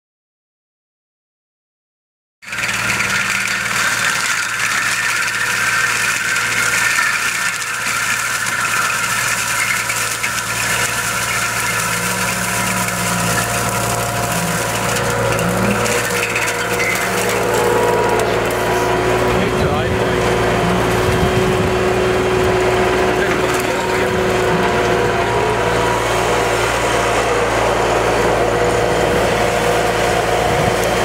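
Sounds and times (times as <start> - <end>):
rotor shredding dry brush: 2.4 - 31.0
tractor engine under load: 2.4 - 31.0.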